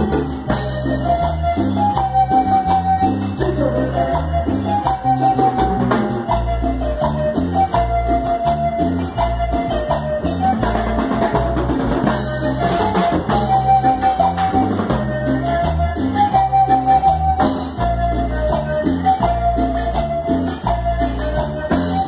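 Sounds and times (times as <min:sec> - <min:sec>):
bass line: 0:00.0 - 0:22.0
drum kit and timbales: 0:00.0 - 0:22.0
keyboard melody: 0:00.0 - 0:22.0.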